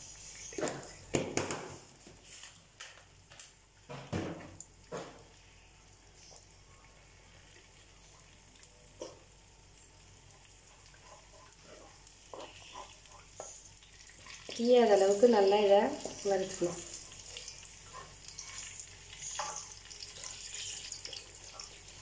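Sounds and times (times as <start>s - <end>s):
seasoning sizzling in oil: 0.0s - 1.0s, 5.2s - 22.0s.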